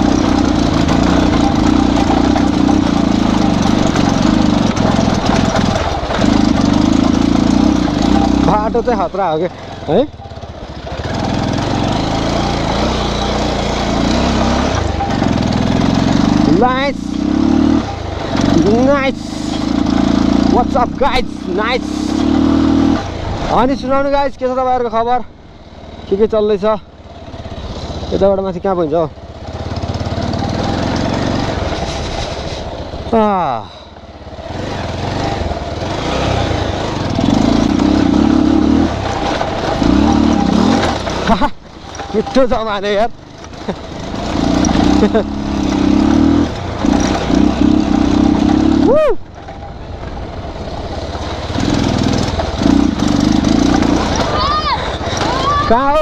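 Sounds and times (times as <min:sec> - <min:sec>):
motorcycle engine under load: 0:00.0 - 0:56.0.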